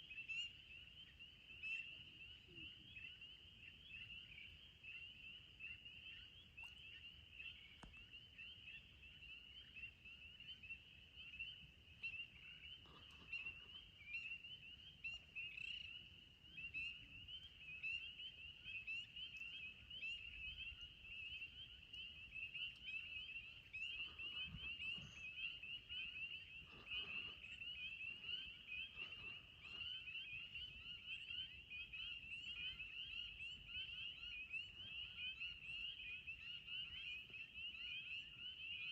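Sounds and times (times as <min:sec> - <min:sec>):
frogs peeping chorus: 0:00.0 - 0:38.9.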